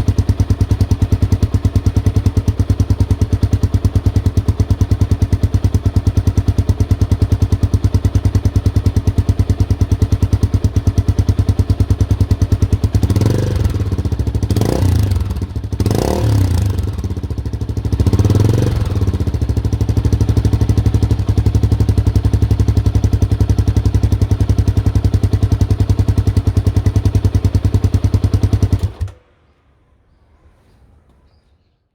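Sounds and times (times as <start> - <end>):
motorcycle engine idling and revving: 0.0 - 29.3.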